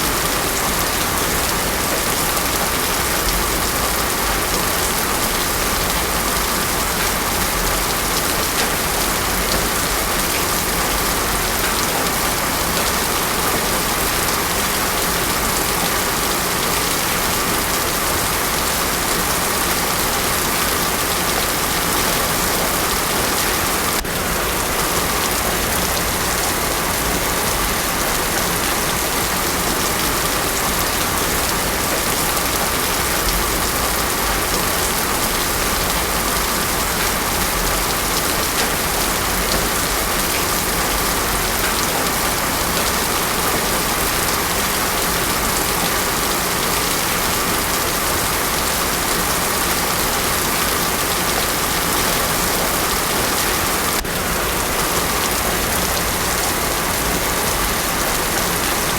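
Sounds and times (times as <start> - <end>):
heavy rain on a road: 0.0 - 58.9.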